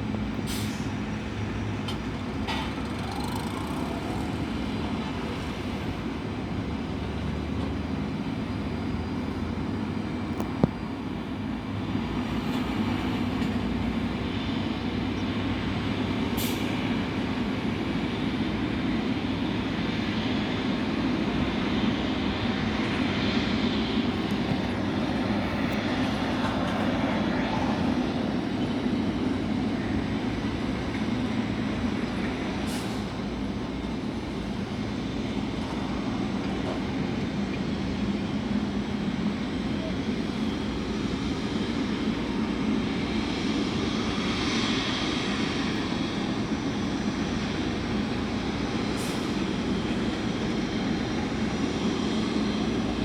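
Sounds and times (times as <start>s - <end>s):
jet engine whine: 0.0s - 53.0s
jet engines roaring: 0.0s - 53.0s.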